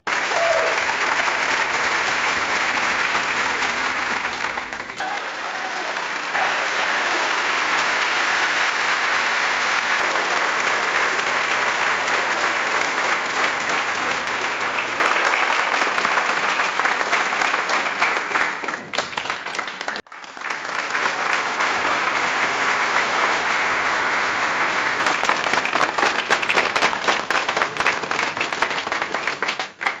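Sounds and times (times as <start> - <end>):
crowd applause: 0.0 - 30.0.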